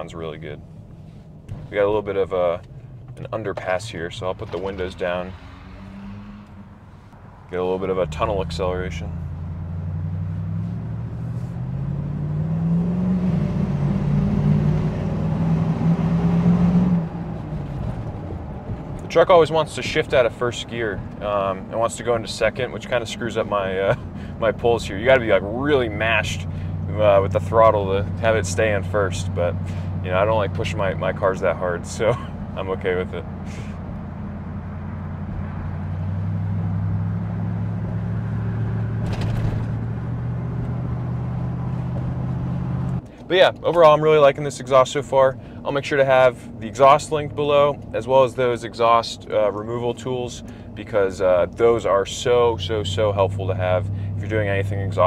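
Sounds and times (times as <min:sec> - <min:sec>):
car engine accelerating: 0:00.1 - 0:55.0.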